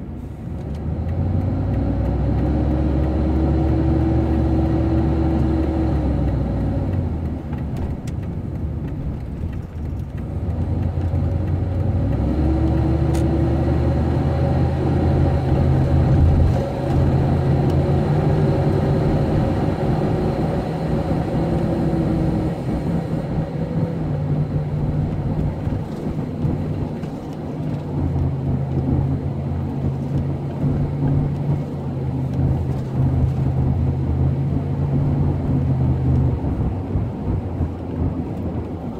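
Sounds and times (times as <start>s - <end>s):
van engine accelerating: 0.0s - 38.9s.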